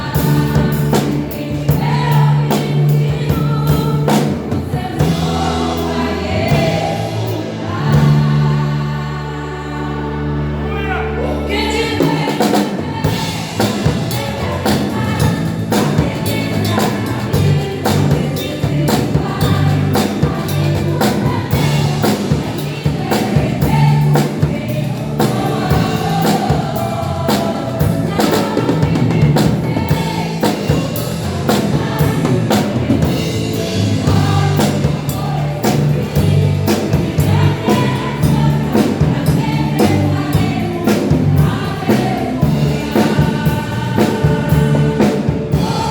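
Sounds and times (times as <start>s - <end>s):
steady drum beat: 0.0s - 8.5s, 12.0s - 45.9s
bass: 0.0s - 45.9s
women's choir singing hymn: 0.0s - 45.9s.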